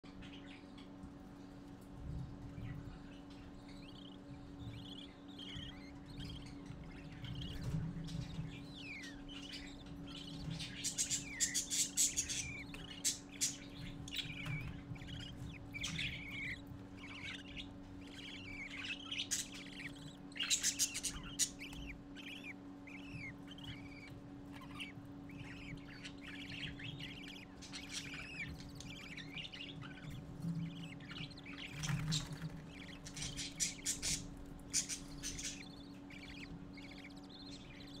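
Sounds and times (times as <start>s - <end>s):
budgies chirping and twittering: 0.0s - 38.0s.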